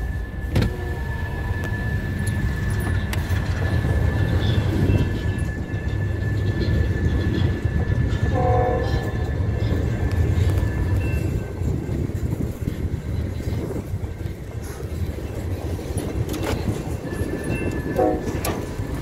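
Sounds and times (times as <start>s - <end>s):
steady high whine: 0.0s - 19.0s
train wheels rumbling on rail: 0.0s - 19.0s.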